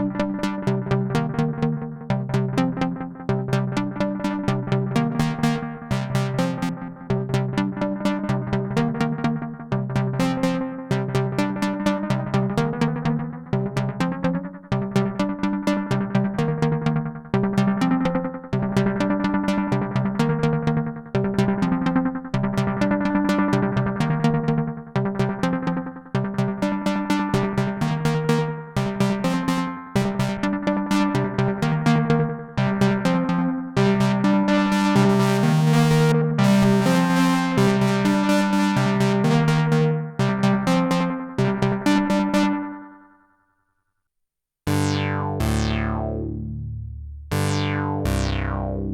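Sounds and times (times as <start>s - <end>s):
synthesizer plucked notes with echoes: 0.0s - 43.1s, 44.7s - 48.9s.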